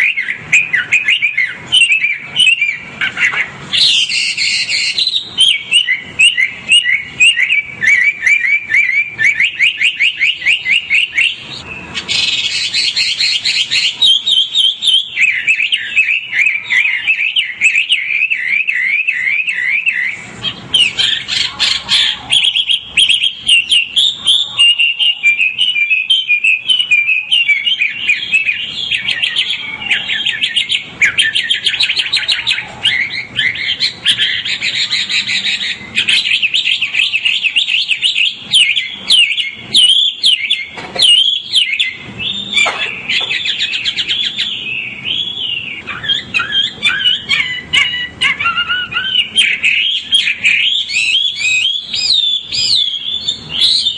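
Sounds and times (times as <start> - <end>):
bird singing whistled song: 0.0 - 53.9.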